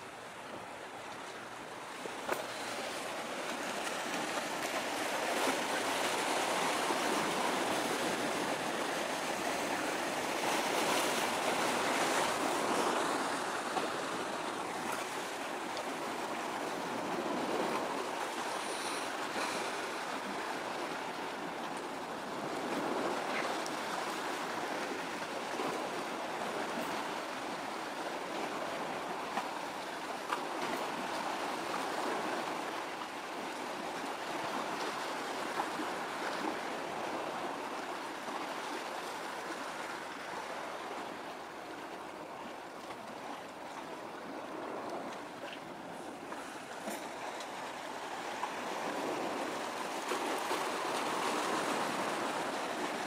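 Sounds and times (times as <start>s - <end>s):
water lapping: 0.0s - 53.0s.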